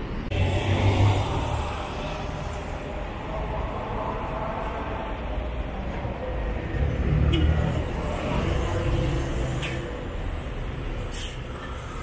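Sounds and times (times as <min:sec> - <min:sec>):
bus diesel engine rumble: 0:00.0 - 0:12.0.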